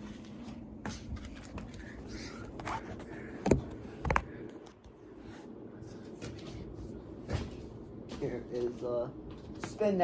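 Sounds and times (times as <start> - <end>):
ceiling fan running: 0.0 - 10.0.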